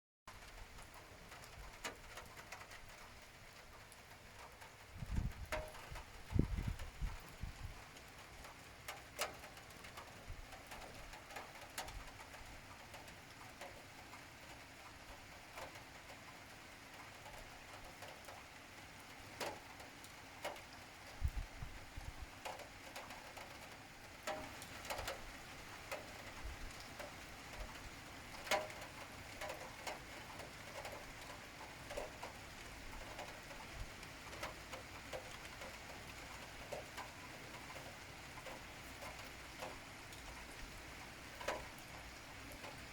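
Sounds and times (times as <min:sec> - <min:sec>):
steady rain hiss: 0:00.3 - 0:42.9.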